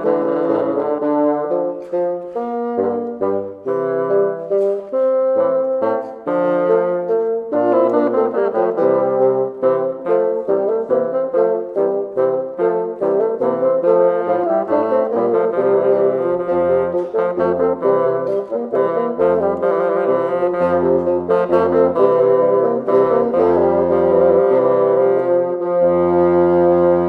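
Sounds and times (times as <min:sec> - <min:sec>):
bassoon playing: 0:00.0 - 0:27.0.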